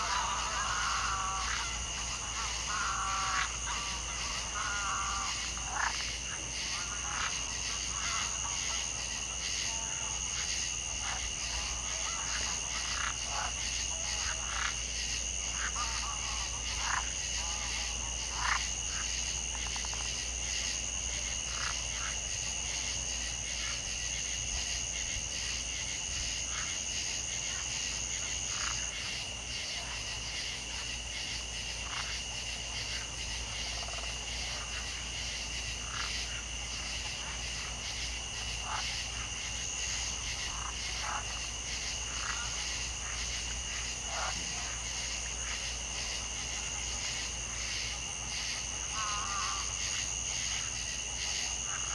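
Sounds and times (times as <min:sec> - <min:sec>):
frogs croaking: 0:00.0 - 0:51.9.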